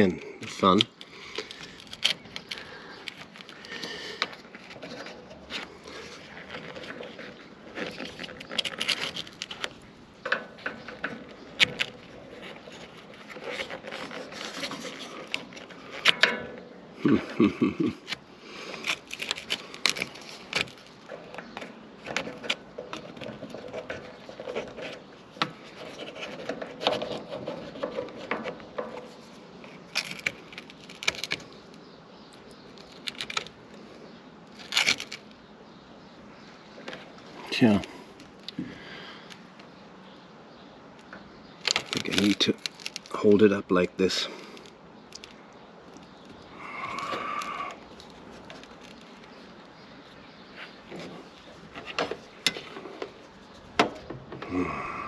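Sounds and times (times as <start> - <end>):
scraping and clicks on rubber seal: 0.4 - 16.7, 18.0 - 33.8, 34.5 - 35.4, 41.0 - 43.3, 44.5 - 54.5.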